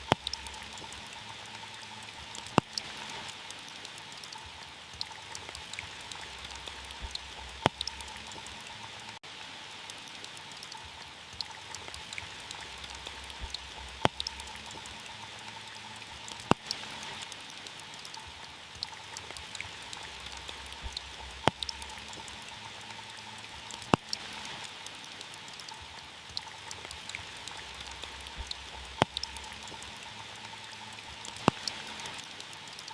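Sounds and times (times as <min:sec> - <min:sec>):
rain on a car roof: 0:00.0 - 0:32.9.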